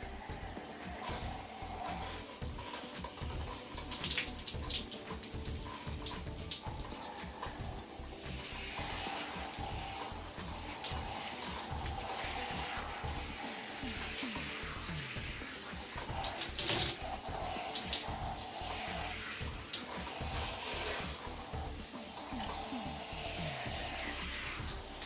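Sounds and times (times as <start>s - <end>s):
shower water running: 0.0s - 25.0s
water splashing: 0.0s - 25.0s.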